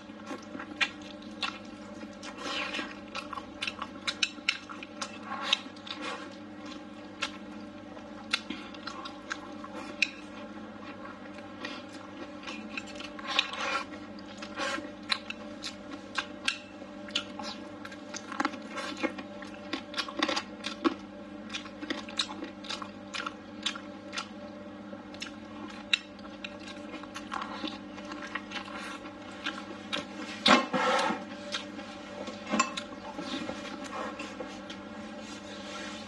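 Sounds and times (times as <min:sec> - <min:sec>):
person chewing crunchy food: 0:00.0 - 0:34.8
steady low hum: 0:00.0 - 0:36.0.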